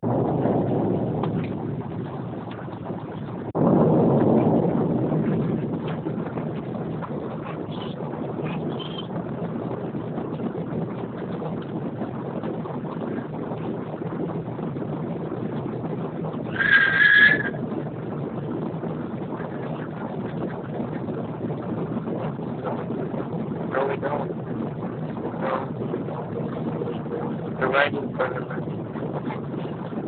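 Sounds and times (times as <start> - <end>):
airliner cabin engine noise: 0.0 - 30.0.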